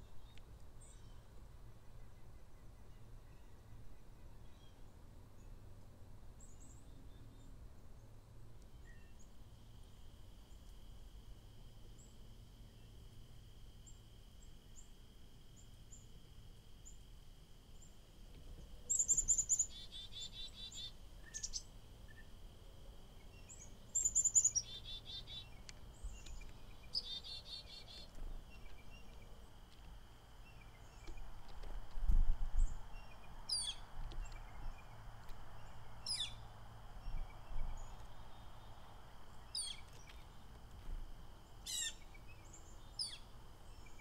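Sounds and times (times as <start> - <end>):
songbirds chirping: 0.0 - 44.0.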